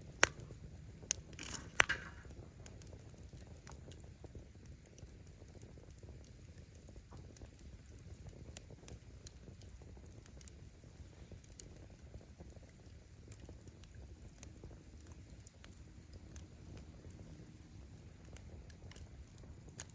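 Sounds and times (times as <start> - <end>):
fire flames rumbling: 0.0 - 19.9
firewood crackling and popping: 0.0 - 19.9.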